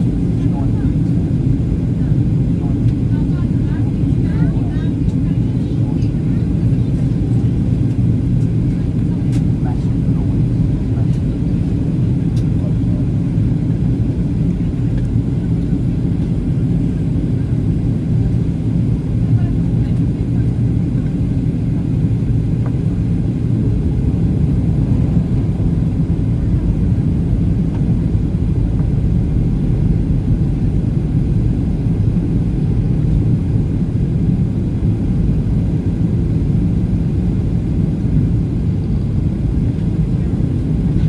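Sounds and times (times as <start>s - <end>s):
airplane cabin engine rumble: 0.0s - 41.0s.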